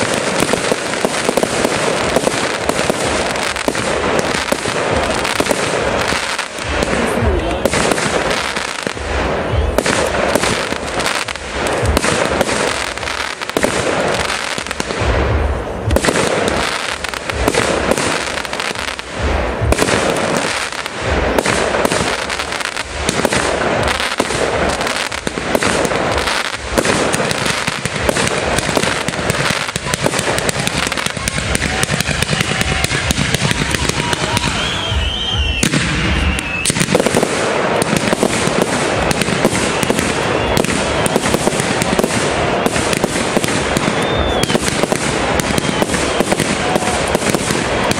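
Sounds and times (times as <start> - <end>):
deep fireworks booms: 0.0 - 47.9
fireworks bangs and crackling: 0.0 - 47.9.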